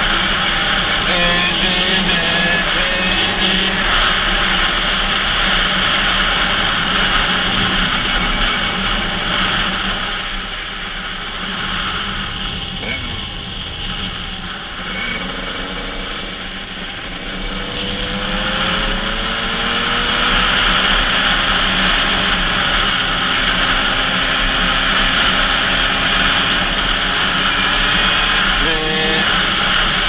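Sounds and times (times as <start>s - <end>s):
motorcycle engine under load: 0.0s - 30.0s.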